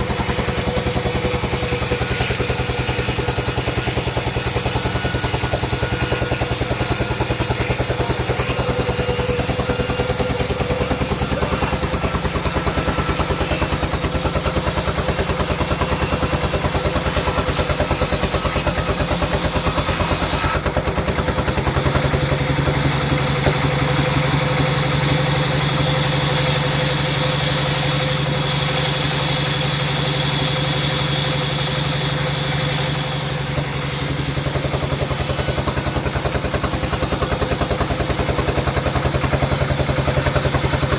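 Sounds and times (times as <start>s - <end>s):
sawmill machinery pulsing: 0.0s - 40.9s.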